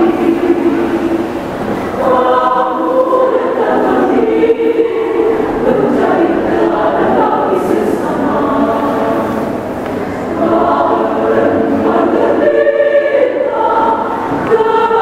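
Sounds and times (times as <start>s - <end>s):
women's choir singing: 0.0s - 15.0s.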